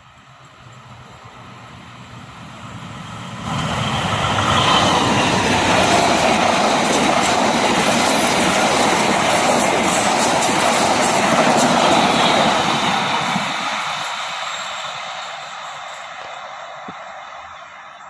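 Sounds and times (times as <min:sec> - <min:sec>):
train rumbling past on rails: 0:00.0 - 0:18.0.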